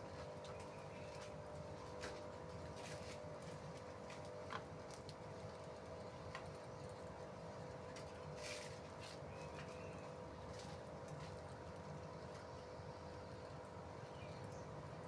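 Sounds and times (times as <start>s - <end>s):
steady low hum: 0.0s - 15.0s
pigeons pecking light taps: 0.2s - 14.5s.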